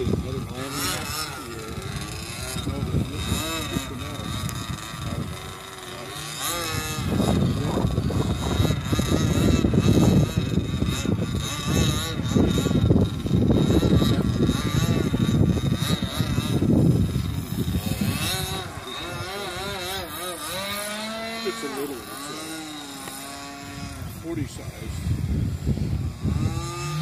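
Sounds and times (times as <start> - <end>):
loud rough rumble: 0.0 - 27.0
model airplane engine buzzing: 0.0 - 27.0.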